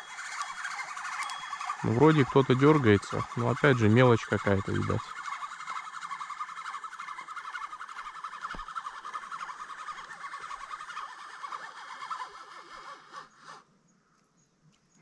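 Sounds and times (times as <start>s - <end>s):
chorus of chirping animals: 0.0s - 13.6s.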